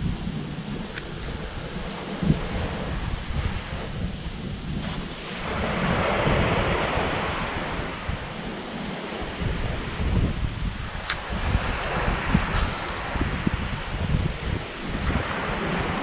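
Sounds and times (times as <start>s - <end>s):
surf washing on beach: 0.0s - 16.0s
wind rumbling on microphone: 0.0s - 16.0s.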